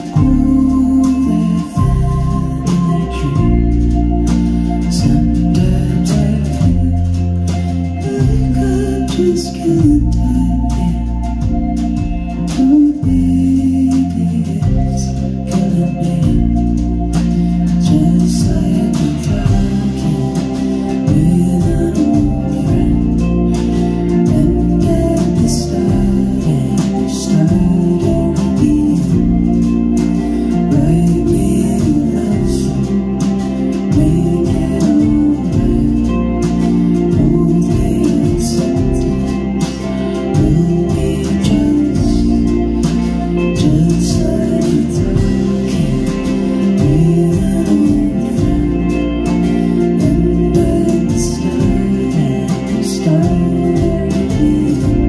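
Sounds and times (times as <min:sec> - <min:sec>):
rock band playing: 0:00.0 - 0:55.0
woman singing: 0:00.0 - 0:55.0.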